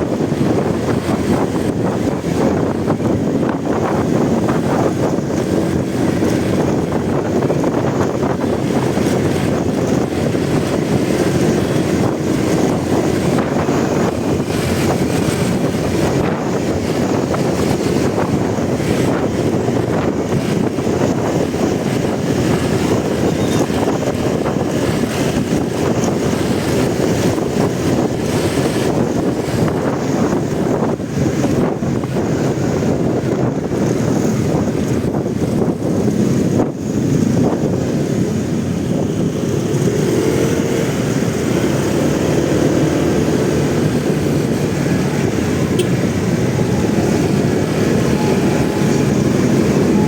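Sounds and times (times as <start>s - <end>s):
motorcycle engine: 0.0s - 50.0s
road noise: 0.0s - 50.0s
wind rushing on microphone: 0.0s - 50.0s.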